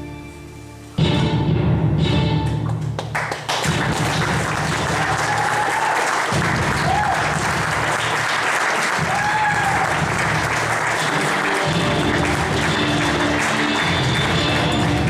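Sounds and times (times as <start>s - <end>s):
film music over sound system: 0.0s - 5.6s, 6.3s - 15.0s
audience applauding: 2.6s - 15.0s.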